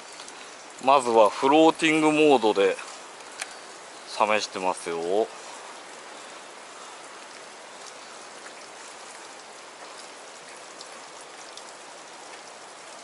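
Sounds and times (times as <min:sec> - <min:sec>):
fast-flowing creek: 0:00.0 - 0:13.0.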